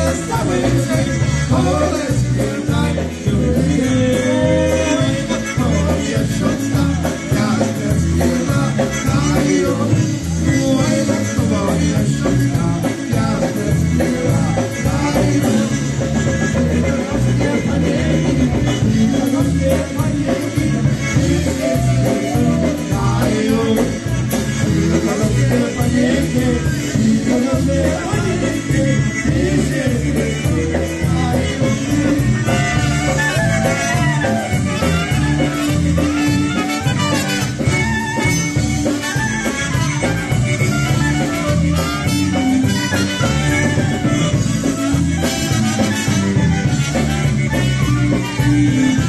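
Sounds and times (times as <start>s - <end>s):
person singing: 0.0s - 49.0s
polka band playing: 0.0s - 49.0s
pulsing bass beat: 0.0s - 49.0s.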